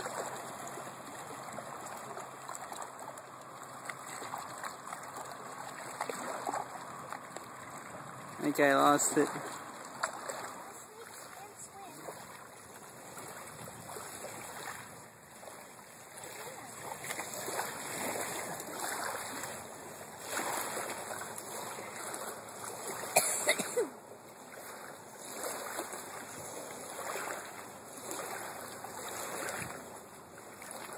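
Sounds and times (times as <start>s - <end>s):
waves lapping on pebbles: 0.0s - 30.9s.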